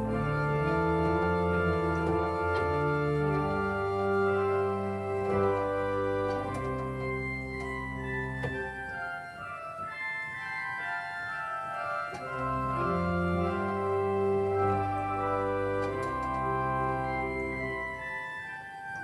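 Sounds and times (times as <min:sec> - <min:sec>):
deep organ pedal bass: 0:00.0 - 0:18.6
church organ chords: 0:00.0 - 0:19.0.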